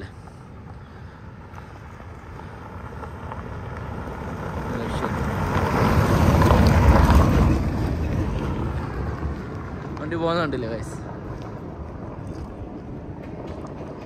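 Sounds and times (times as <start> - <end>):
tyres on gravel: 0.0 - 14.0
car engine passing: 0.2 - 14.0.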